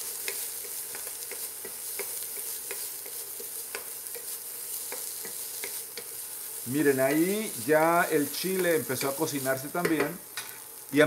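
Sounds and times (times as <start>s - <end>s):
vegetables sizzling in a pan: 0.0s - 11.0s
wooden spatula scraping a pan: 0.1s - 10.1s.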